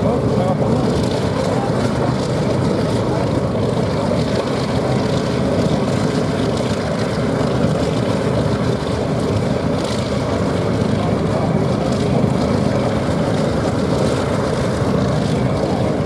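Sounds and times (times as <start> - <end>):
propeller aircraft engines running: 0.0 - 16.0.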